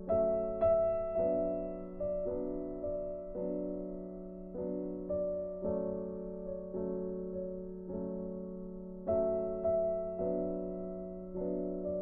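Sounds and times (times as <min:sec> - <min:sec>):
gentle electronic piano melody: 0:00.0 - 0:12.0.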